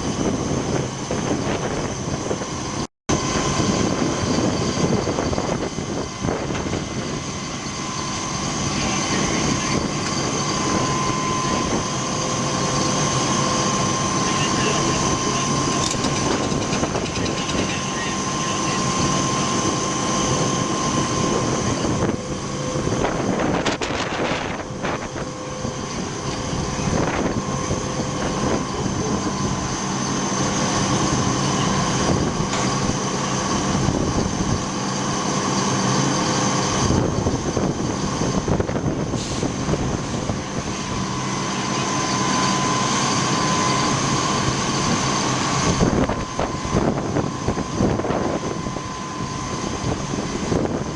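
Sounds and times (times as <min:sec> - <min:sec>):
fire engine droning: 0:00.0 - 0:50.9
high whine: 0:00.0 - 0:50.9.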